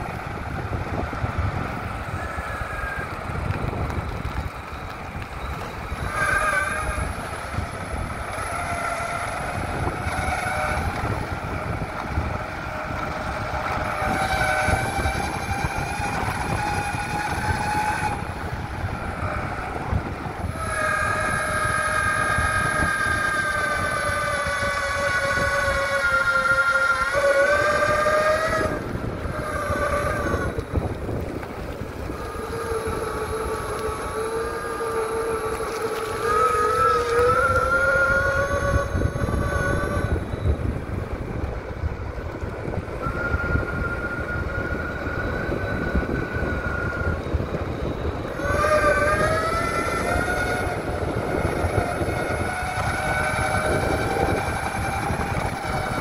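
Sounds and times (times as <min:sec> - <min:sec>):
electric motors whining: 0:00.0 - 0:56.0
wheels rolling rumble: 0:00.0 - 0:56.0.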